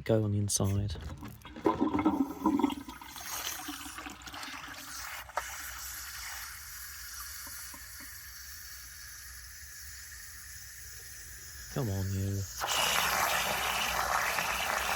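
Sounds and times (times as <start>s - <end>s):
water trickling in cistern: 1.0s - 14.9s.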